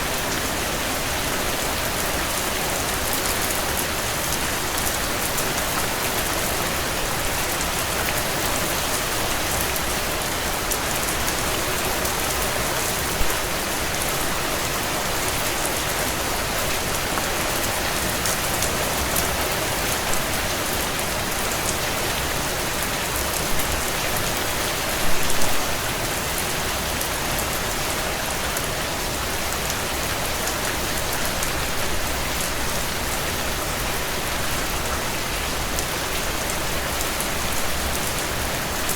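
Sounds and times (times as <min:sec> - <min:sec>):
heavy rain on window panes: 0:00.0 - 0:38.9.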